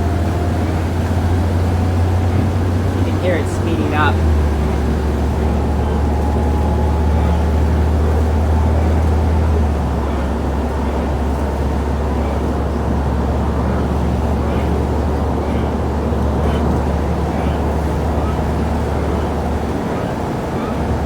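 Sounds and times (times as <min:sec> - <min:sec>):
bus drivetrain drone: 0:00.0 - 0:21.0
faint whine: 0:00.0 - 0:21.0
road noise: 0:00.0 - 0:21.0.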